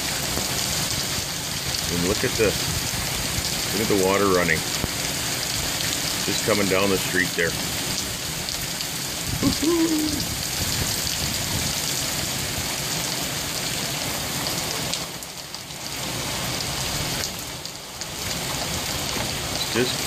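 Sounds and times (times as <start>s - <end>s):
runoff water streaming: 0.0s - 20.0s
torrential rain splashing: 0.0s - 20.0s.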